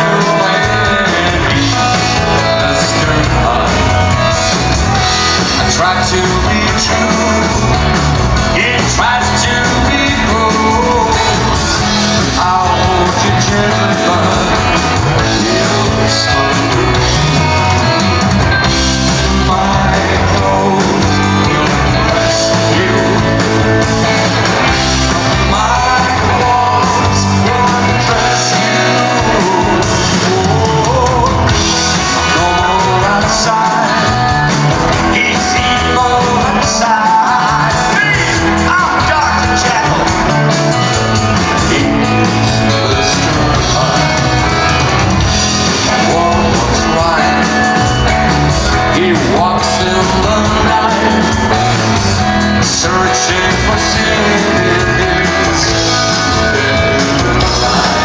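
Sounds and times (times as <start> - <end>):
man singing into microphone: 0.0 - 58.0
rock band playing live: 0.0 - 58.0.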